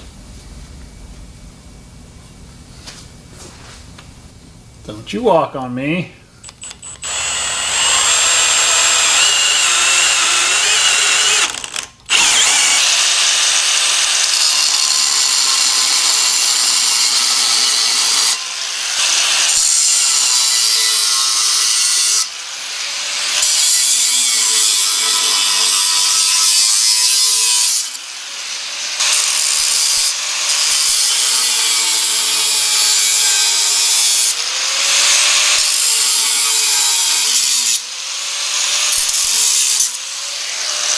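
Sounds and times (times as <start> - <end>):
angle grinder cutting steel: 6.4 - 40.9.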